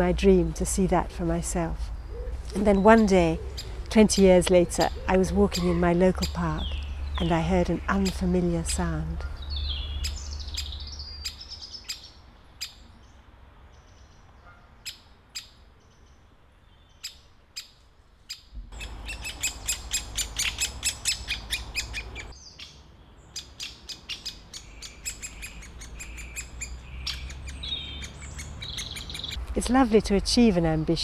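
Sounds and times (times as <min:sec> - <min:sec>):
woodpecker chicks chirping: 0:01.8 - 0:29.5.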